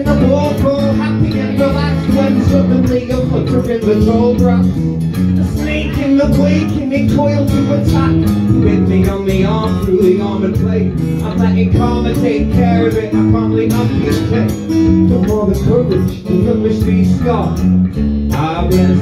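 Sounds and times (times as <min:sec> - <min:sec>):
electric bass: 0:00.0 - 0:19.0
man singing: 0:00.0 - 0:19.0
strummed acoustic guitar: 0:00.0 - 0:19.0.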